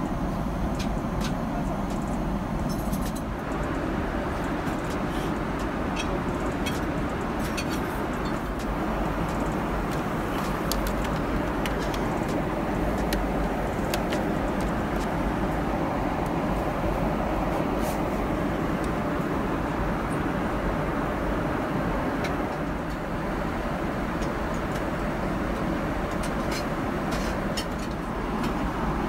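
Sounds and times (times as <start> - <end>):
engine and airflow rush: 0.0 - 29.0.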